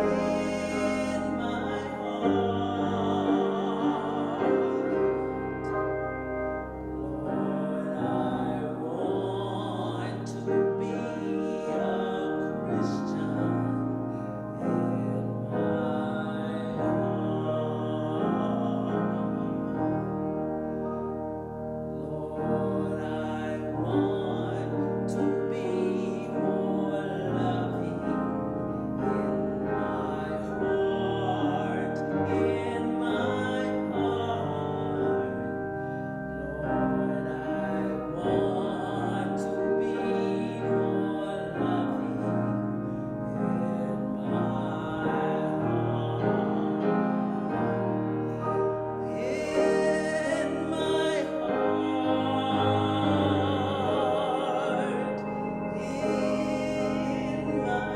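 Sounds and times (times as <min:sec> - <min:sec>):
person singing long notes: 0:00.0 - 0:21.0, 0:21.9 - 0:57.9
piano chords: 0:00.0 - 0:57.9.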